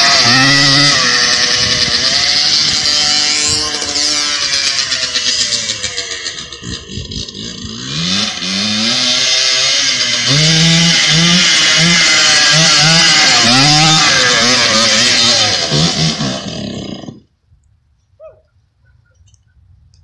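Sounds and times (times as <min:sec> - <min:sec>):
quad engine revving: 0:00.0 - 0:17.3.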